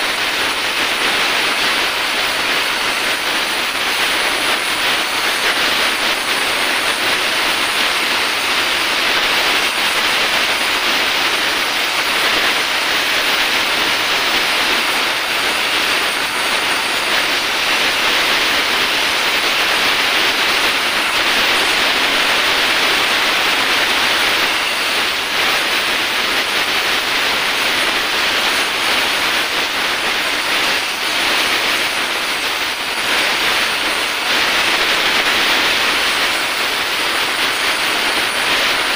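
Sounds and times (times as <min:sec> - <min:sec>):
welding torch flame hissing: 0:00.0 - 0:38.9.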